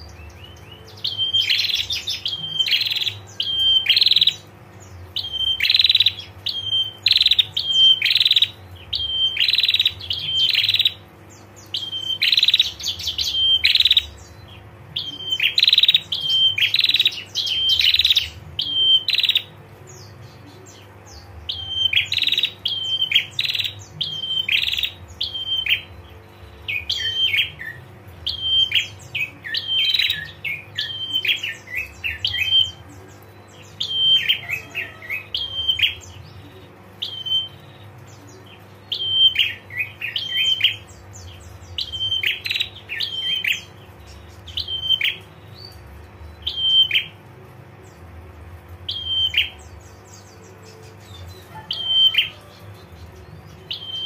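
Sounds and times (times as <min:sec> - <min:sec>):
bird chattering call: 0:00.0 - 0:19.6, 0:20.5 - 0:45.8, 0:48.9 - 0:54.0.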